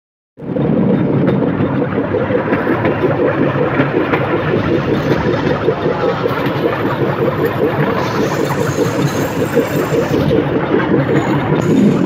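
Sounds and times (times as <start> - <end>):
wheels clattering on track: 0.4 - 12.0
small petrol engine running: 2.0 - 12.0.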